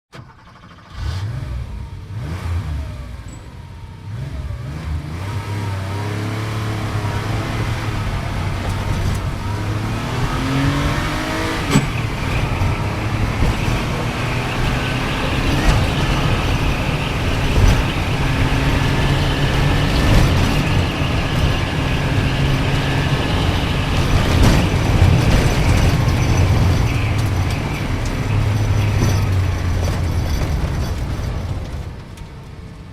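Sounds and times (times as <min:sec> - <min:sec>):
sports car engine accelerating: 0:00.9 - 0:32.9.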